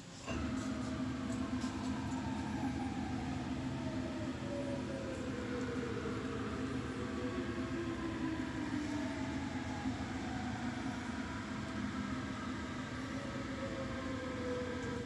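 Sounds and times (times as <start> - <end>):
falling machine whine: 0.3 - 15.0
machine hum: 0.3 - 15.0.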